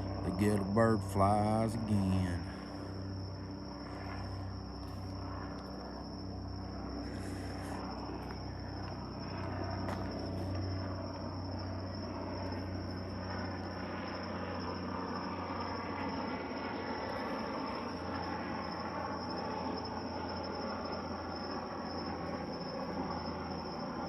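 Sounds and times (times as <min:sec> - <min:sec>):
helicopter drone: 0:00.0 - 0:24.0
high-pitched insect trill: 0:00.0 - 0:24.0.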